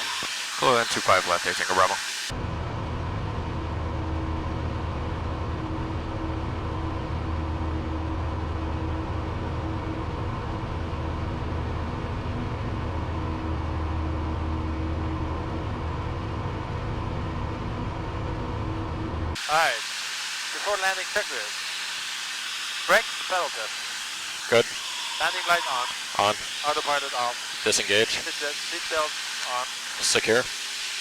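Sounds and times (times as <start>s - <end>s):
airplane engine and propeller drone: 0.0s - 31.0s.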